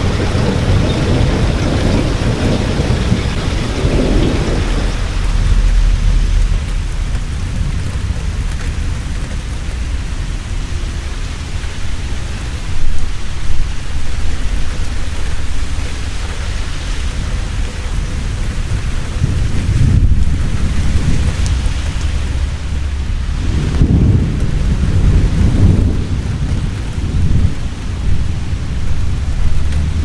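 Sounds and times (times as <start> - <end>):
heavy rain: 0.0 - 30.0
low rumble of thunder: 0.0 - 30.0.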